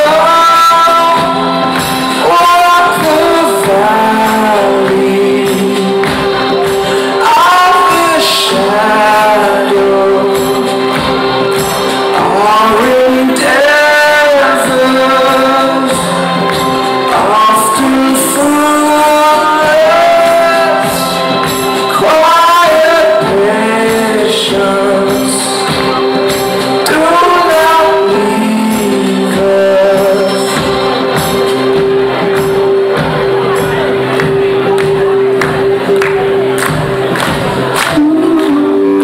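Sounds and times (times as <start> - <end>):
live band music: 0.0 - 39.0
people singing long notes: 0.0 - 39.0.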